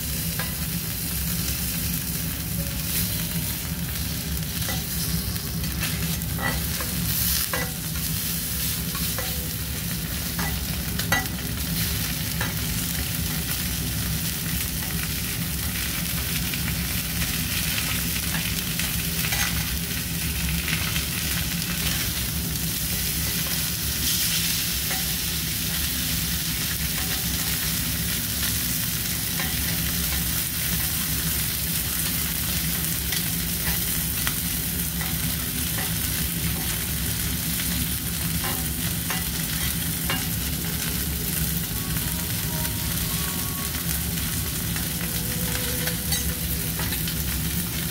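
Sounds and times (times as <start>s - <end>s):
beef sizzling on a griddle: 0.0s - 47.9s.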